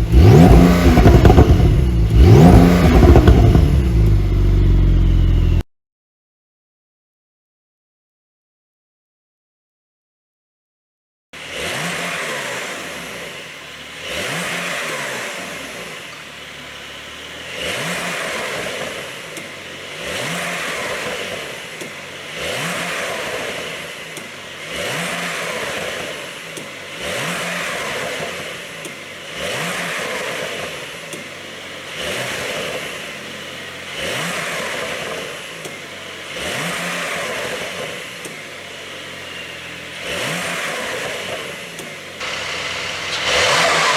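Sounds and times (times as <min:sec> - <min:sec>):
car engine revving: 0:00.0 - 0:05.6, 0:11.4 - 0:43.9.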